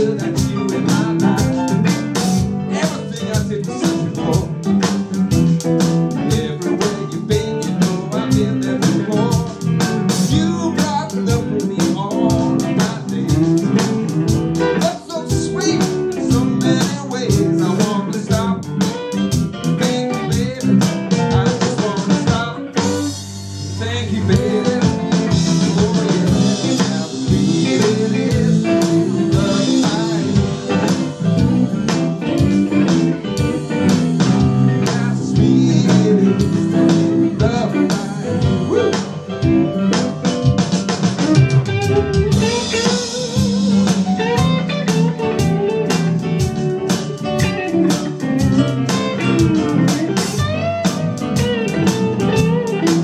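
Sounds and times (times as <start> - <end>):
drum kit steady beat: 0.0 - 53.0
guitar bending notes: 0.0 - 53.0
live blues band: 0.0 - 53.0.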